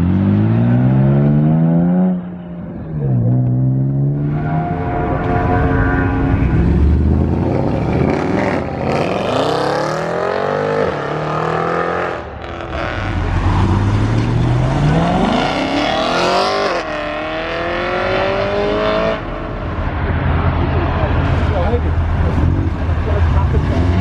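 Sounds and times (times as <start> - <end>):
sports car engines accelerating: 0.0 - 24.0.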